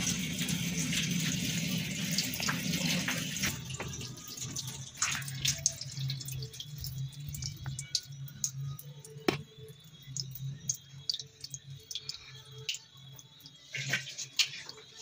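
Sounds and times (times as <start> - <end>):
water running and dripping: 0.0 - 15.0.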